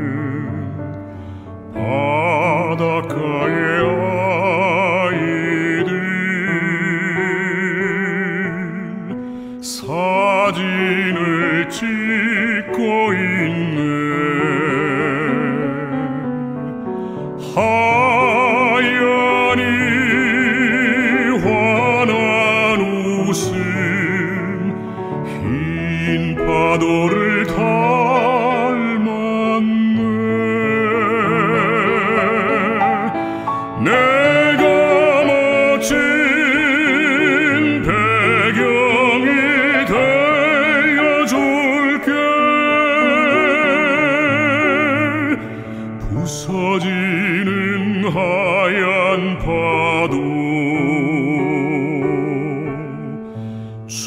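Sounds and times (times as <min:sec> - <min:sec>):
man singing operatically: 0:00.0 - 0:54.0
piano accompaniment: 0:00.0 - 0:54.0.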